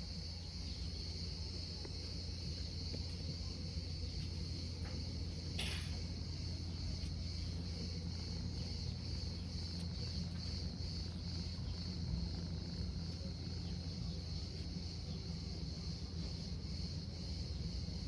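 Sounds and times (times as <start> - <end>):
insects chirring: 0.0 - 18.0
low steady hum: 0.0 - 18.0.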